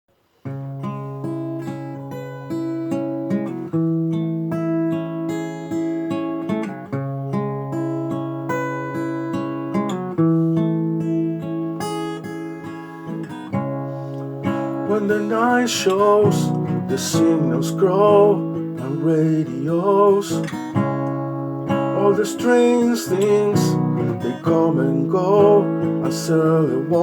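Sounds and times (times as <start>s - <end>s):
acoustic guitar picking: 0.4s - 27.0s.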